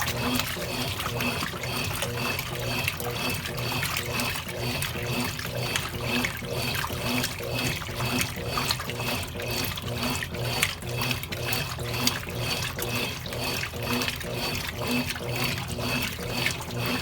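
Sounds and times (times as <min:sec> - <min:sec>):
washing machine water churning: 0:00.0 - 0:17.0.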